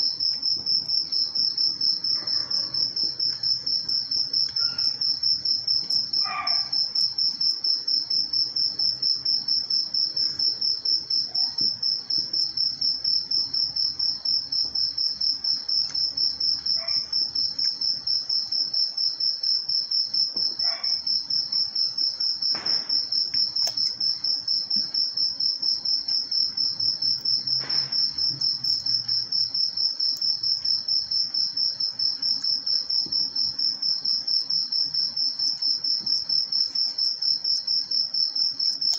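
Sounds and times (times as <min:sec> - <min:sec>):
insect chirping trill: 0:00.0 - 0:38.9.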